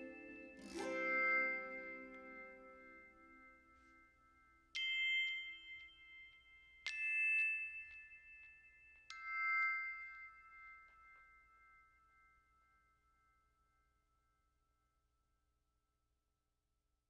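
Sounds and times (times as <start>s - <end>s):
bell-like chime notes: 0.0s - 13.8s.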